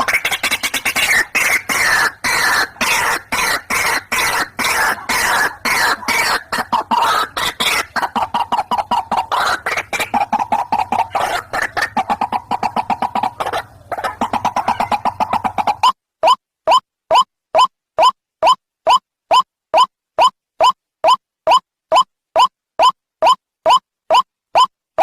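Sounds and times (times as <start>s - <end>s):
waterhen call: 0.0s - 24.7s.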